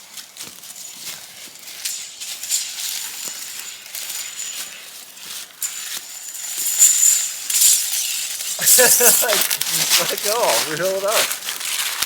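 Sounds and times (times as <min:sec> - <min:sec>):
rustling and crackling undergrowth: 0:00.0 - 0:12.0.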